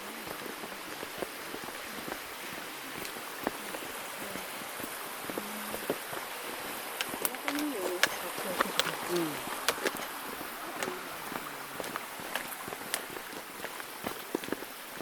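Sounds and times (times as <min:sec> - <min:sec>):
stream water rushing: 0:00.0 - 0:15.0
footsteps on rocky trail: 0:00.2 - 0:15.0.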